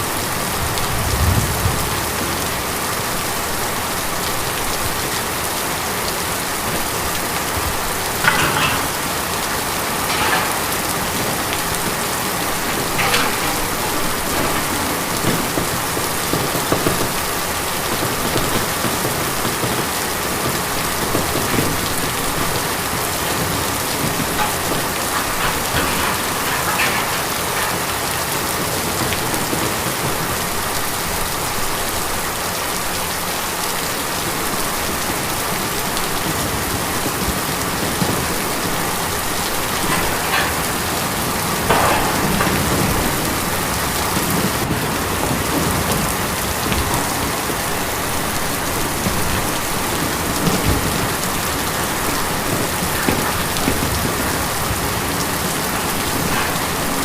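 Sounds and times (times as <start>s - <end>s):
rain on tin: 0.0s - 57.0s.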